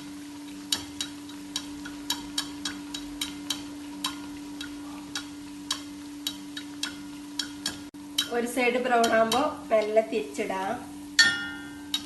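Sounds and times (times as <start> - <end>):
oil crackling and popping: 0.0 - 10.2, 11.0 - 12.0.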